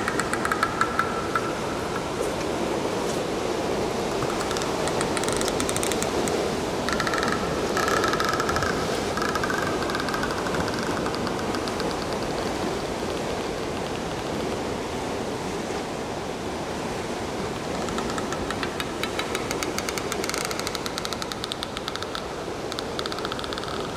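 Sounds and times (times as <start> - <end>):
surf washing over rocks: 0.0 - 23.9.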